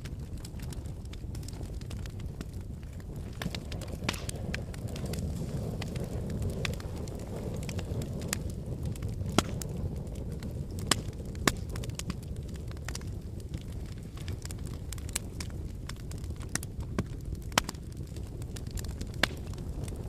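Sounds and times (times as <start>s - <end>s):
fire crackling and popping: 0.0s - 20.0s
fire flame rushing: 0.0s - 20.0s.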